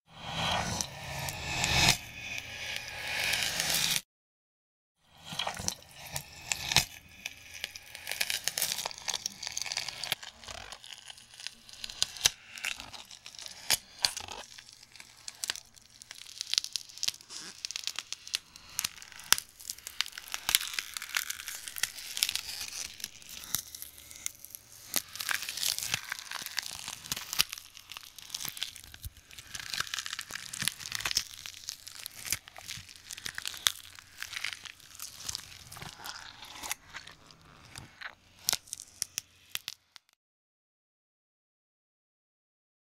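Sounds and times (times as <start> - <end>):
crackling crunching and tearing: 5.3 - 40.1.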